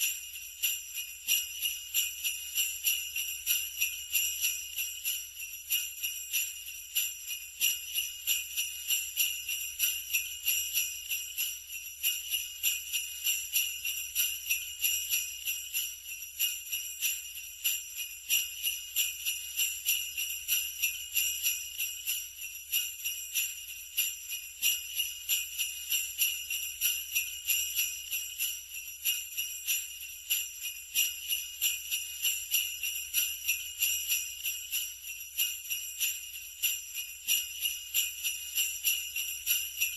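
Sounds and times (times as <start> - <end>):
sleigh bells jingling: 0.0 - 39.9.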